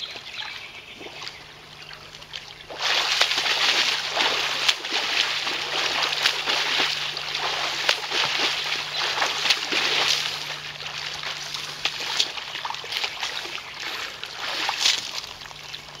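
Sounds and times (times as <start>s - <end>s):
swimmer splashing in pool: 2.2s - 16.0s.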